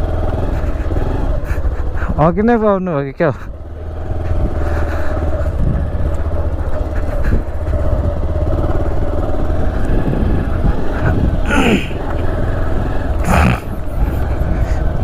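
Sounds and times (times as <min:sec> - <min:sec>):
motorcycle engine on gravel road: 0:00.0 - 0:15.0.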